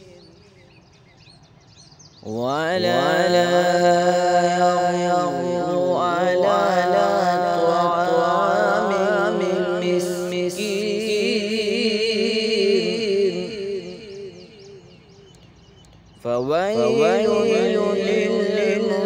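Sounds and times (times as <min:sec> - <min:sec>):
man chanting melodically: 0:02.2 - 0:15.1, 0:16.2 - 0:19.0.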